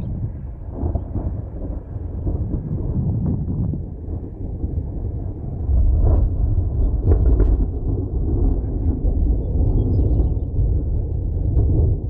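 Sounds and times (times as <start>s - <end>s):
low rumbling storm: 0.0s - 12.0s.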